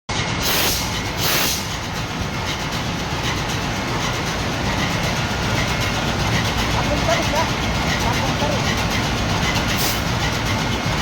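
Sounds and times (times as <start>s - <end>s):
diesel engine clatter and rumble: 0.1s - 11.0s.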